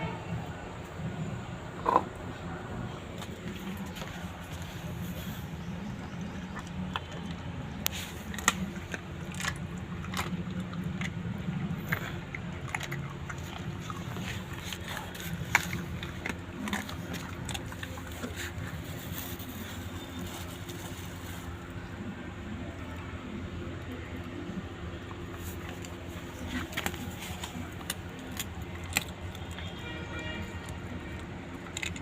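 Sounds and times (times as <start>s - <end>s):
dog chewing crunches: 3.0s - 22.6s, 23.3s - 32.0s.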